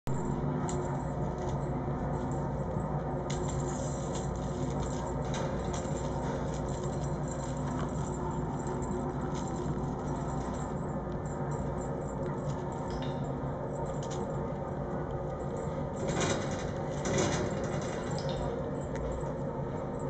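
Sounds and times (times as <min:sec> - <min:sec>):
low room hum: 0:00.1 - 0:20.0.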